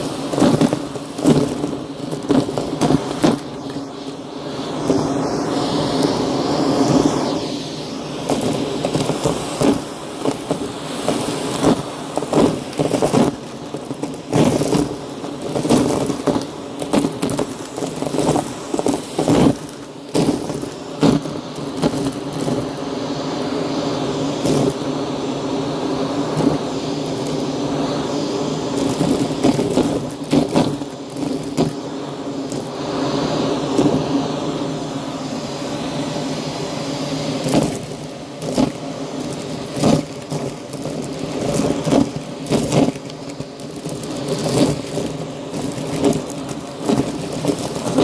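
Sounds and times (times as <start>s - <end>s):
crackles and clicks: 0.0s - 25.0s, 26.0s - 32.8s, 37.2s - 48.0s
vacuum cleaner running over rug: 0.0s - 48.0s.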